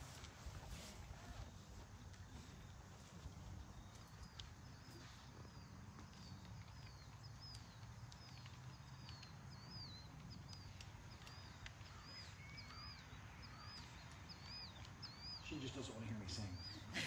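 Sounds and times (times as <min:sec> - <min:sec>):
small bird chirping: 0:02.3 - 0:16.9.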